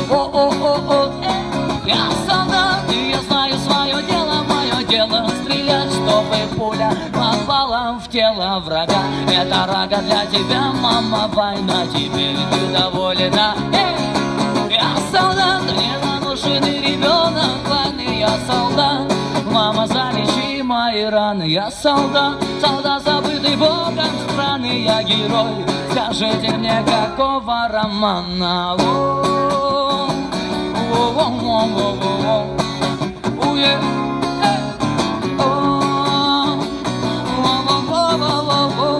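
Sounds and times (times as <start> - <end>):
guitar: 0.0 - 38.9
man singing rock song: 0.0 - 38.9.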